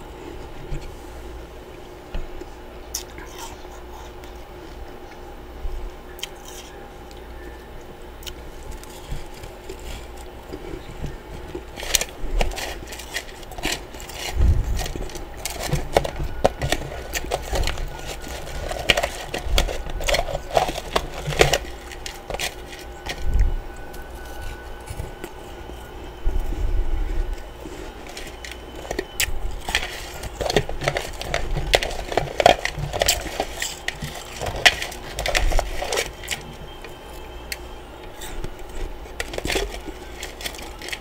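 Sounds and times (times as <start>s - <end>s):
ice being chewed: 2.4s - 5.2s, 6.1s - 41.0s.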